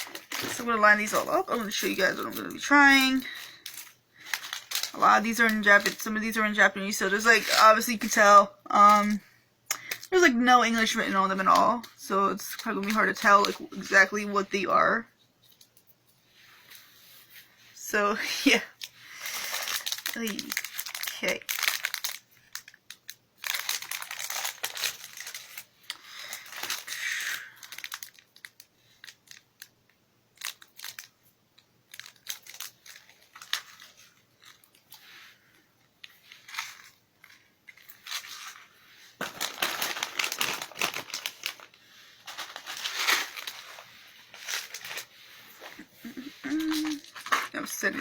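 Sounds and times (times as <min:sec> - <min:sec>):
plastic packets crinkling: 0:00.0 - 0:14.5, 0:18.2 - 0:48.0.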